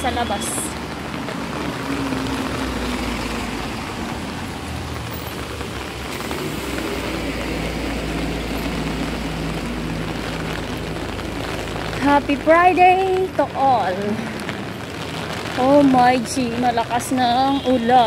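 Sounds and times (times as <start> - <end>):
buses and vans passing: 0.0 - 18.0
heavy rain on street: 0.0 - 18.0.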